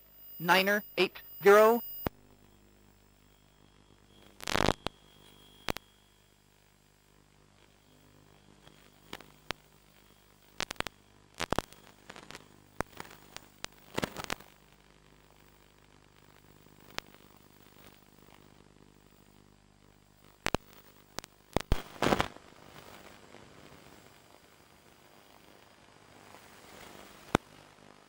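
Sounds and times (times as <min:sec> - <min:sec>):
faint electrical hum: 0:00.0 - 0:28.0
radio static crackles: 0:00.0 - 0:28.0.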